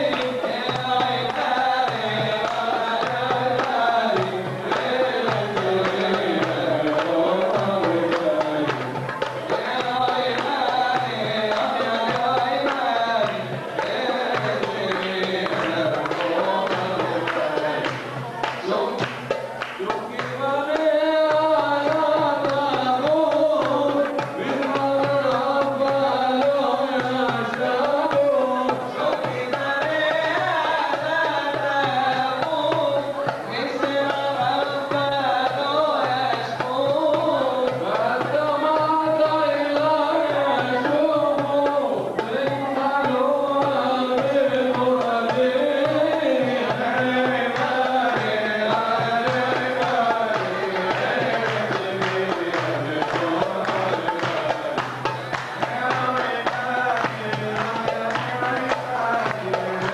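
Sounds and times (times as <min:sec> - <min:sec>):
hand drum beating: 0:00.0 - 0:59.9
man singing ornamented chant: 0:00.0 - 0:59.9.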